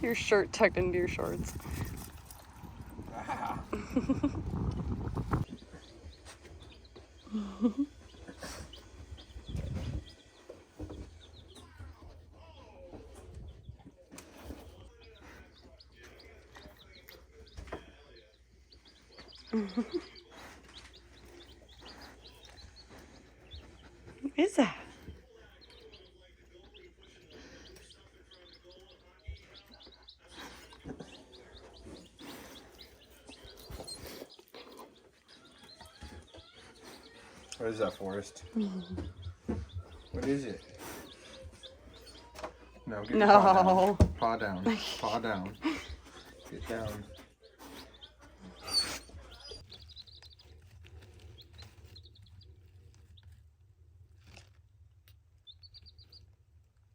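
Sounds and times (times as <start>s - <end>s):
chickens clucking: 0.0s - 53.4s.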